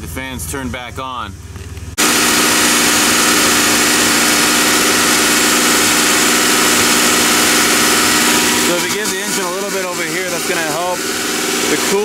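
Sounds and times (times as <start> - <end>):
car engine idling: 1.4 - 12.0.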